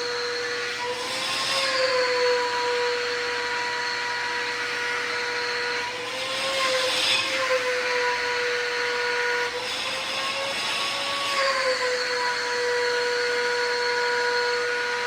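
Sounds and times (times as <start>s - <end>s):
shop vacuum running: 0.0s - 15.0s.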